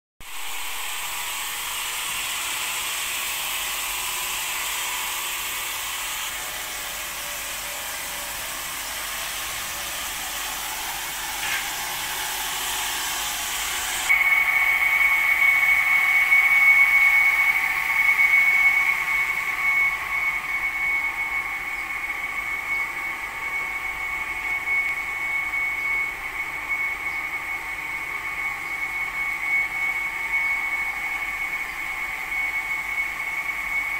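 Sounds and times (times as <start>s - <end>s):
machine high-pitched whine: 0.2s - 33.9s.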